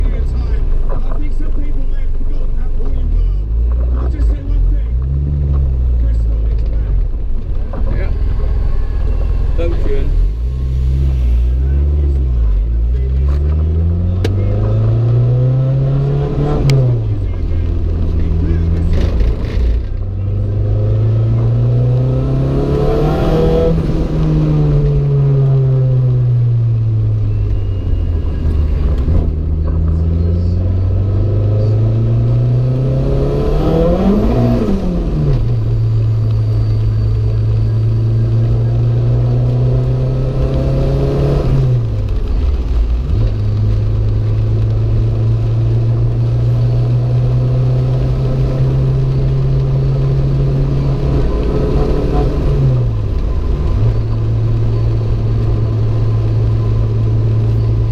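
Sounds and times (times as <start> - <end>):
car engine revving: 0.0 - 57.9
road and tyre noise: 0.0 - 57.9.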